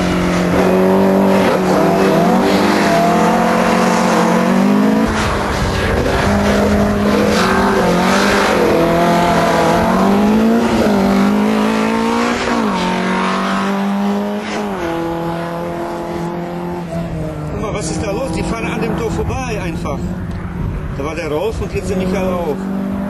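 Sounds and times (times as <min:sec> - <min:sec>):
car engine revving hard: 0:00.0 - 0:21.0, 0:21.6 - 0:23.0.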